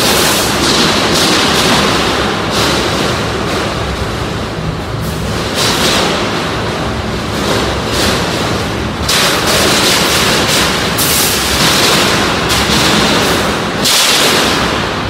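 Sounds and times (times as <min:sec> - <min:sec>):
constant wash of noise: 0:00.0 - 0:15.0.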